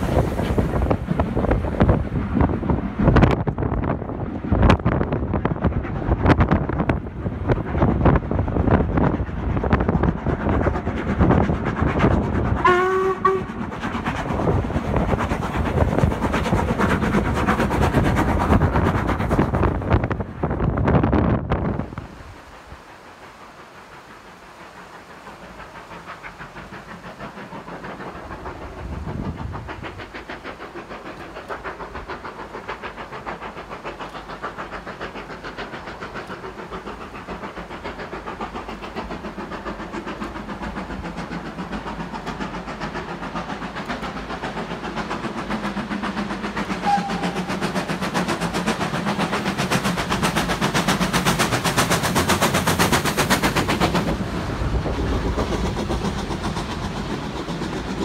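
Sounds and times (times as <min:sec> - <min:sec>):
steam locomotive exhaust beats: 0:00.0 - 0:58.0.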